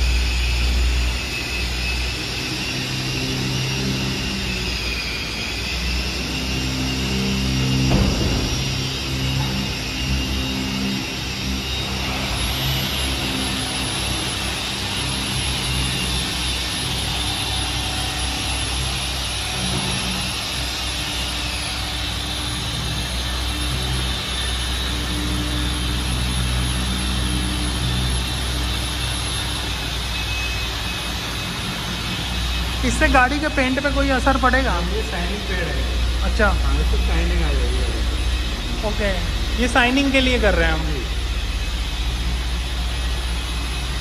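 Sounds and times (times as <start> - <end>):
polishing machine motor whirring: 0.0 - 44.0
thin high whine: 0.0 - 44.0.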